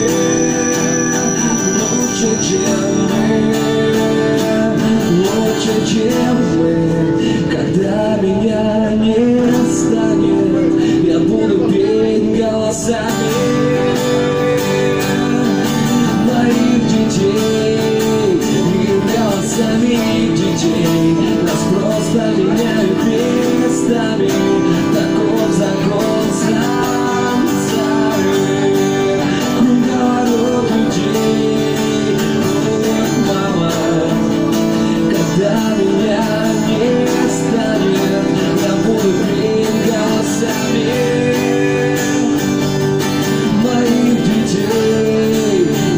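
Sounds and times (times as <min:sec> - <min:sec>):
acoustic guitar playing: 0:00.0 - 0:45.9
person singing: 0:00.0 - 0:45.9.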